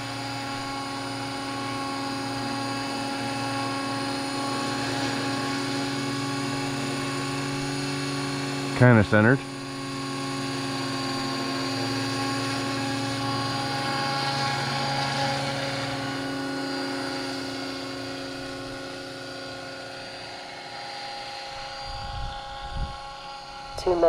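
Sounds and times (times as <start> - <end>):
helicopter rotor drone with whine: 0.0 - 24.0.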